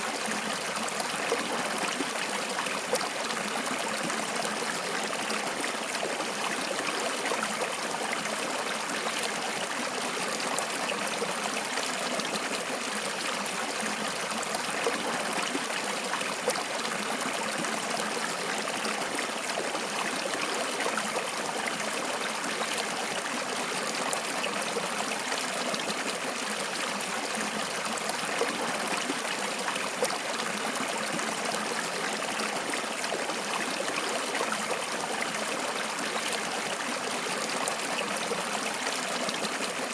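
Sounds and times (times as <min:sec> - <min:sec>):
stream running and trickling: 0:00.0 - 0:39.9.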